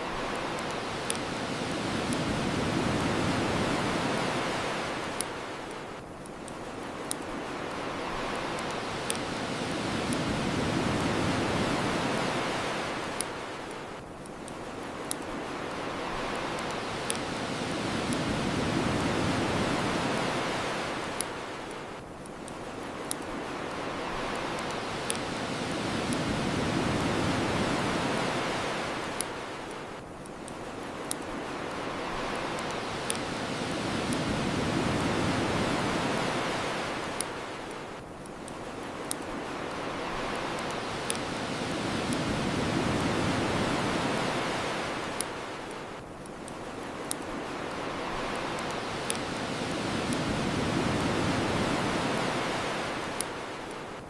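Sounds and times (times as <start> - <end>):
bonfire crackling: 0.0 - 54.0
ocean waves washing onto shore: 0.0 - 54.0.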